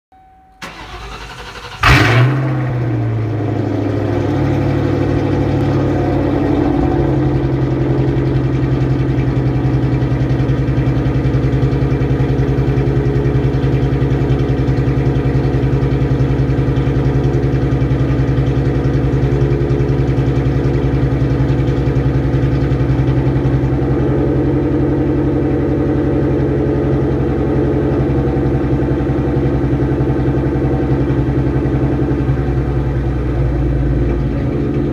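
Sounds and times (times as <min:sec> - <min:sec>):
car engine cold start and idle: 0:00.2 - 0:34.9.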